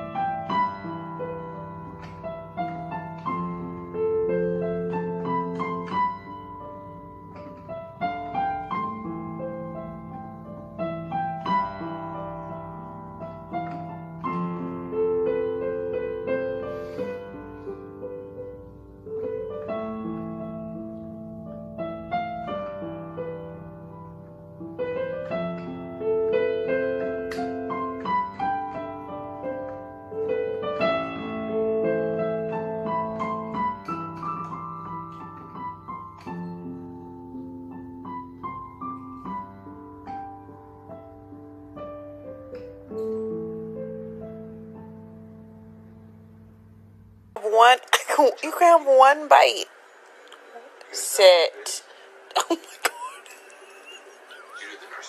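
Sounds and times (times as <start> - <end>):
electronic keyboard piano melody: 0.0 - 49.5.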